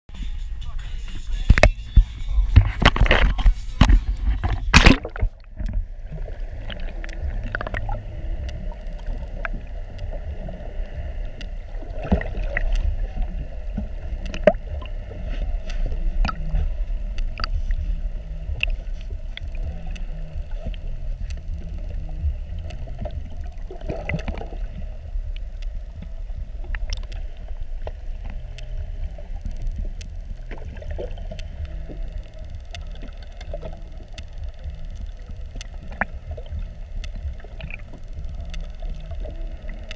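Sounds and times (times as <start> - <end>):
underwater low rumble: 0.1 - 39.9
faint underwater clicks: 0.2 - 39.9.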